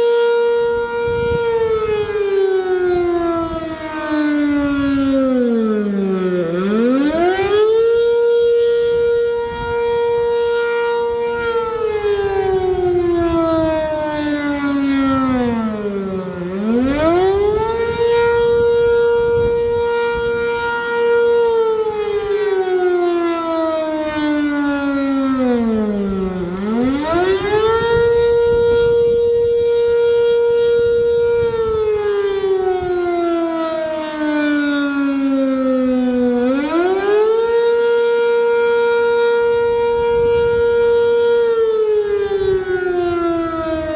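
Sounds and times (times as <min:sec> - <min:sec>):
warning siren wailing: 0:00.0 - 0:43.9.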